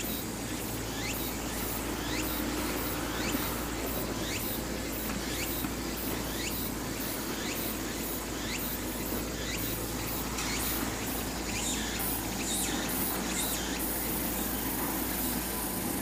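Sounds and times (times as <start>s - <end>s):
insects buzzing in pulses: 0.0s - 16.0s
steady outdoor hum: 0.0s - 16.0s.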